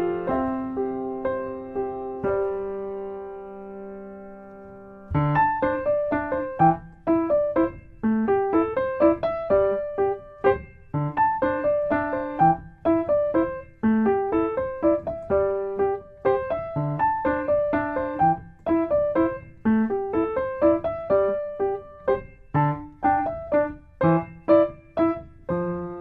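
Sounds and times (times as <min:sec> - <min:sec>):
light piano melody: 0:00.0 - 0:26.0.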